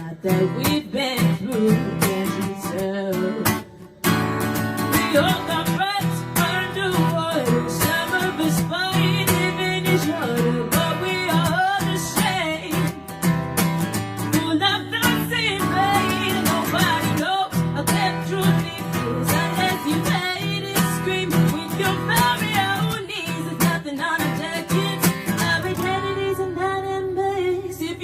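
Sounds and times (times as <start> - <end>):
acoustic guitar strummed: 0.0 - 28.0
woman singing: 0.0 - 28.0.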